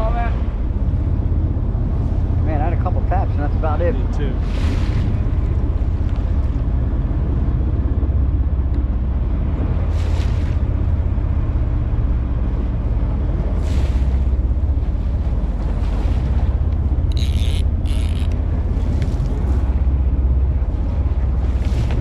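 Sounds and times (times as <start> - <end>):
boat engine hum: 0.0 - 22.0
sea wash: 0.0 - 22.0
wind on microphone: 0.0 - 22.0.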